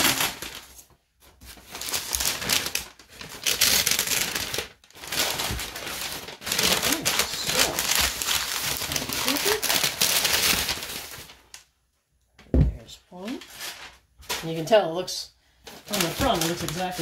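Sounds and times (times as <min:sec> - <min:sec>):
paper crinkling and rustling: 0:00.0 - 0:11.7, 0:13.2 - 0:14.8, 0:15.6 - 0:17.0.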